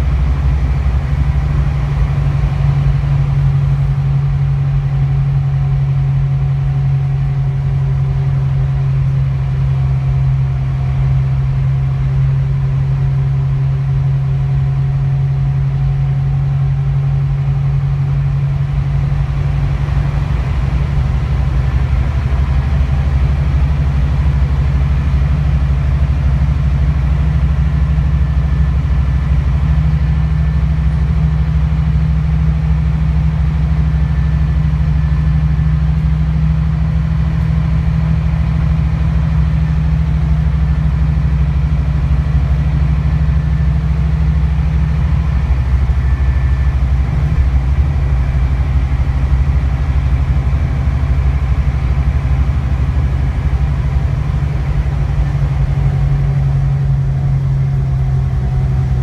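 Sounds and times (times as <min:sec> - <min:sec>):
coach engine idling: 0:00.0 - 0:59.0.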